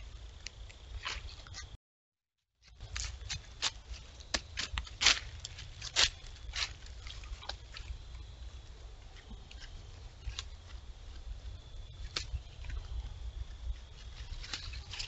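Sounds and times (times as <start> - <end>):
deer stepping through dry leaves: 2.7 - 15.0.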